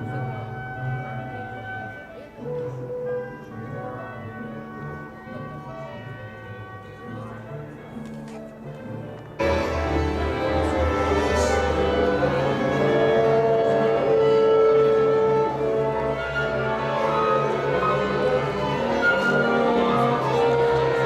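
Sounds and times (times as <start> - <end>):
orchestral music with bowed strings: 0.0 - 21.0.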